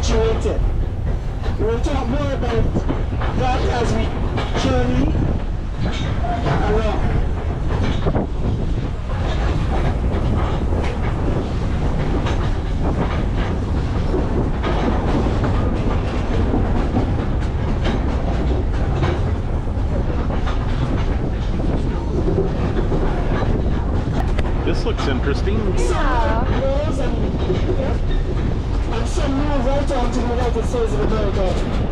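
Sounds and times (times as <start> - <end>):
train rumble: 0.0 - 31.9.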